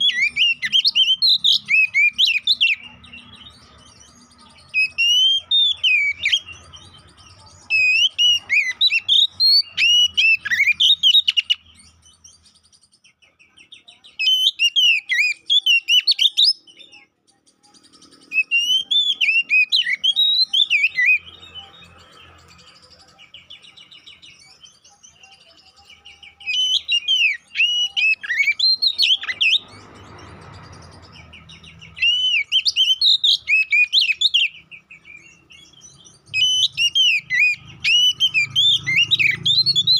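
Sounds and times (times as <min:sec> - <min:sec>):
songbird whistling: 0:00.0 - 0:06.8, 0:07.6 - 0:12.9, 0:13.9 - 0:17.0, 0:17.6 - 0:21.8, 0:23.4 - 0:29.7, 0:31.2 - 0:39.9.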